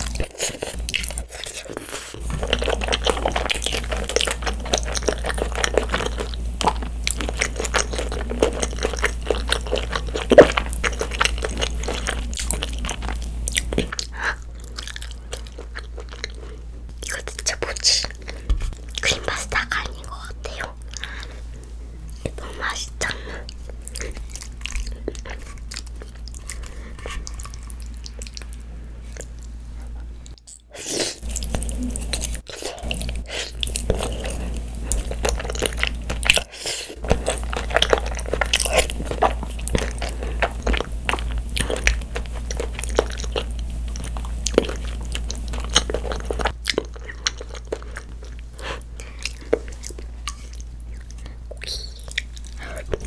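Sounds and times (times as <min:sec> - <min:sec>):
noodles slurped and chewed: 0:00.0 - 0:19.7, 0:22.1 - 0:53.0
steady low hum: 0:00.0 - 0:53.0.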